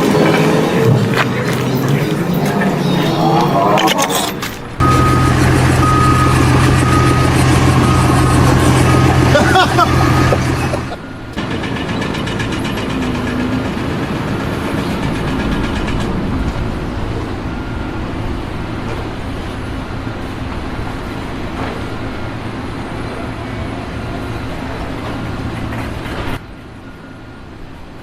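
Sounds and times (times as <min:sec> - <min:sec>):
engine running: 0:00.0 - 0:26.4.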